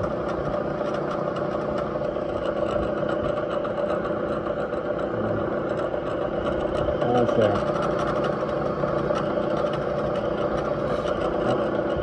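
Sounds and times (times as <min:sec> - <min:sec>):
milling machine cutting metal: 0:00.0 - 0:12.0.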